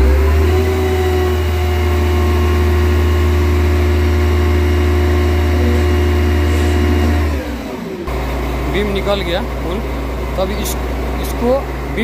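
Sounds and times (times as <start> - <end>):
hydraulic pump whine: 0.0 - 12.0
loud diesel engine drone: 0.0 - 12.0.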